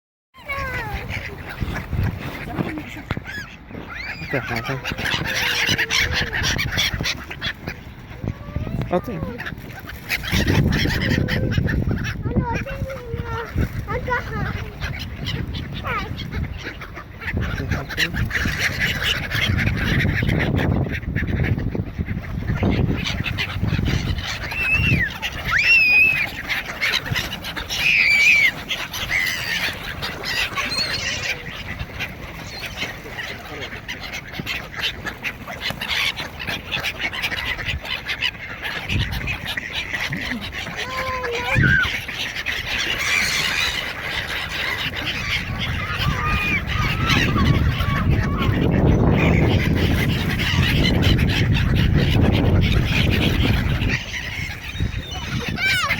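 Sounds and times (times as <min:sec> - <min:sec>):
ducks calling: 0:00.4 - 0:55.9
gulls calling: 0:00.4 - 0:55.9.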